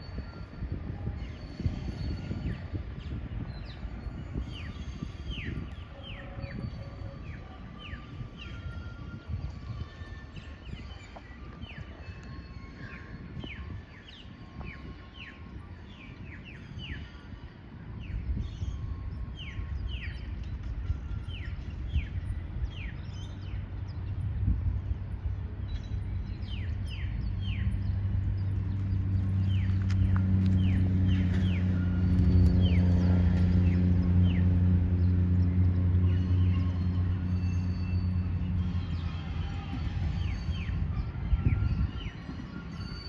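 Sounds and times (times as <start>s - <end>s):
diesel locomotive engine drone: 0.0s - 43.0s
birds whistling: 1.2s - 24.2s, 25.6s - 43.0s.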